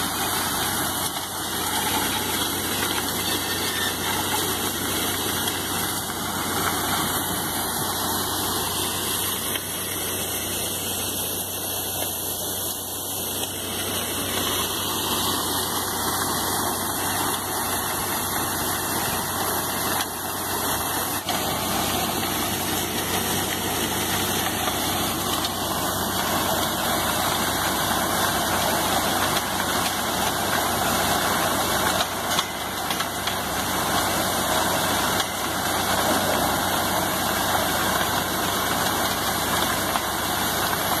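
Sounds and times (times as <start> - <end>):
drilling rig machinery running: 0.0 - 41.0.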